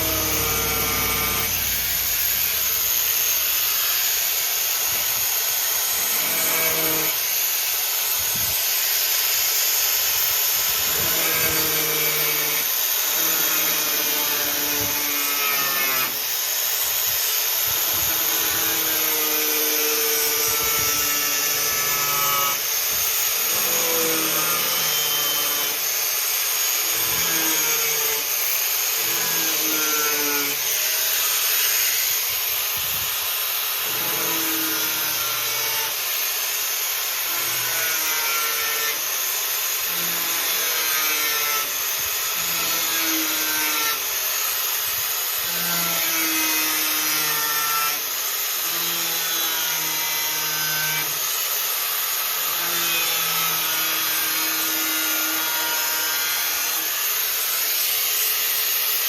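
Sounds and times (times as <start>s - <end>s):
angle grinder cutting sheet steel: 0.0s - 59.0s.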